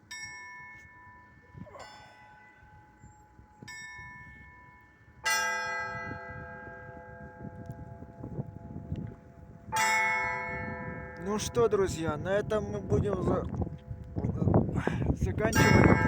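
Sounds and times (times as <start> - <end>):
bells struck ringing: 0.0 - 13.3, 15.5 - 16.0.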